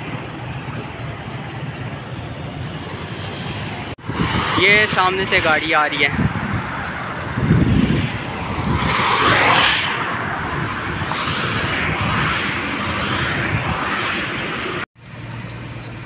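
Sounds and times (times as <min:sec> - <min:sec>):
highway traffic passing: 0:00.0 - 0:16.0.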